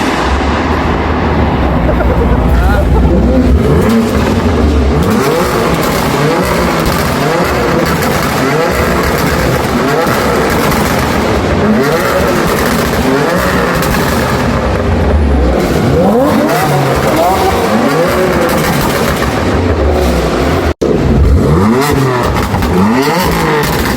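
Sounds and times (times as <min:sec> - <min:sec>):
car engine revving hard: 0:00.0 - 0:23.9.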